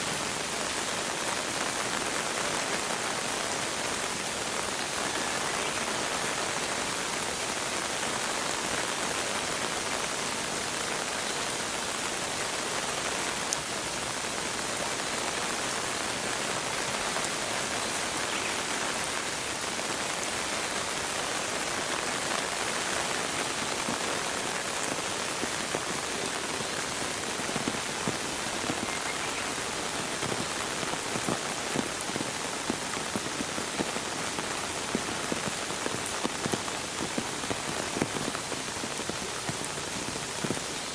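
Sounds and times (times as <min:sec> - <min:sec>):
raindrops ticking and splashing: 0:00.0 - 0:40.9
steady rain: 0:00.0 - 0:40.9.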